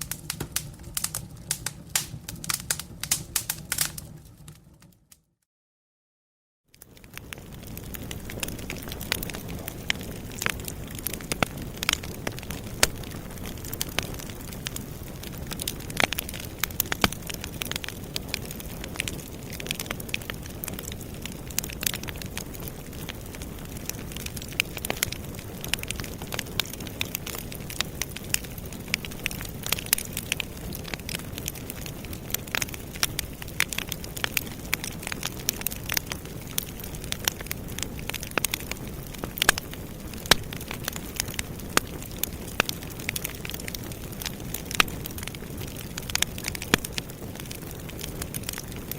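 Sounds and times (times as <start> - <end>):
flames rushing: 0.0 - 5.0, 6.8 - 48.9
wood crackling and popping: 0.0 - 5.2, 6.7 - 48.9.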